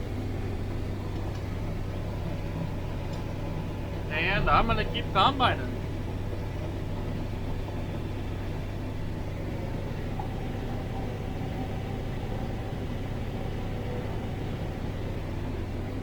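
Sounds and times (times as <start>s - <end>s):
combine harvester cab drone: 0.0s - 16.0s.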